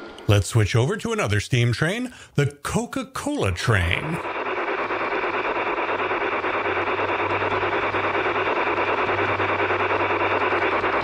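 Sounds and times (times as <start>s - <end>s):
model train wheels and motor rushing: 0.0s - 11.0s.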